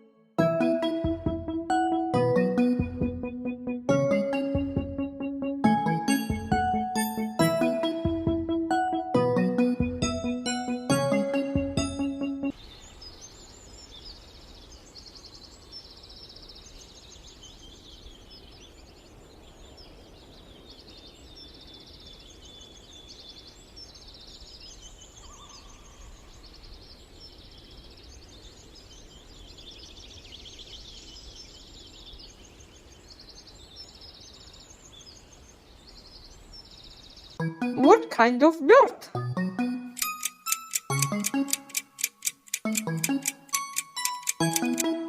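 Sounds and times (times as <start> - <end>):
birds chirping in trills: 0.0 - 45.0.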